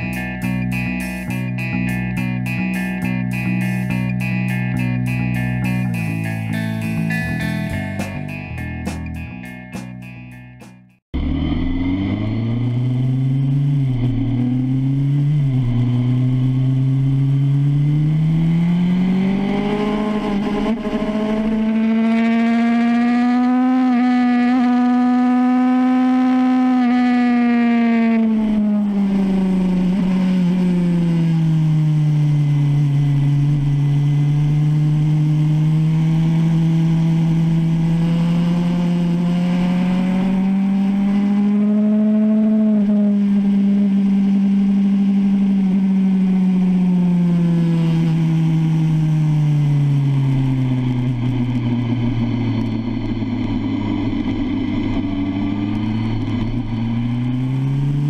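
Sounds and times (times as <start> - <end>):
motorcycle engine at high revs: 11.2 - 58.0.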